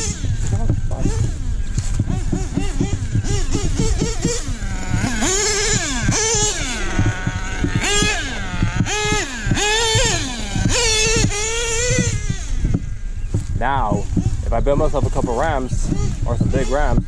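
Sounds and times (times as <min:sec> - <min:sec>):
small engine revving in bursts: 0:00.0 - 0:17.0.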